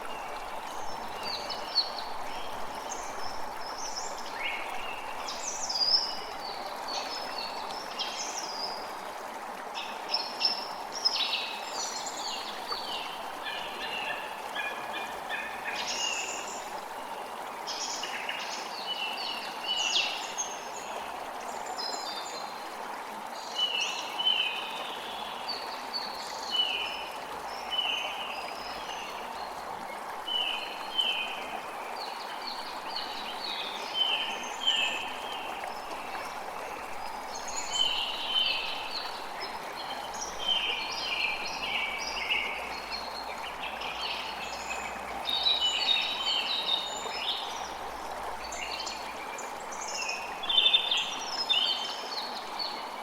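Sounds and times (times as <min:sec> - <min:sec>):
creek water running: 0:00.0 - 0:53.0.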